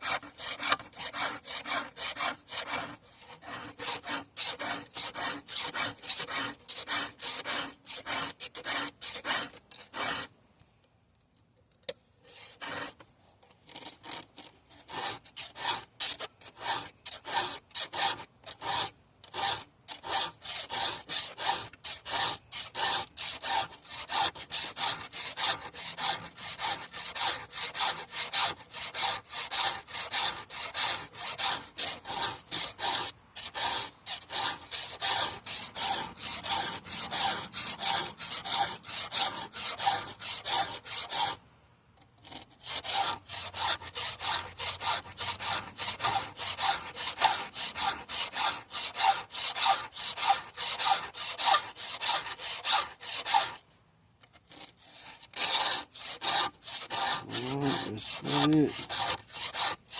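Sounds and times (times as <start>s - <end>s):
file rasping on chain: 0.0s - 10.3s, 12.3s - 13.0s, 13.6s - 41.4s, 42.2s - 59.9s.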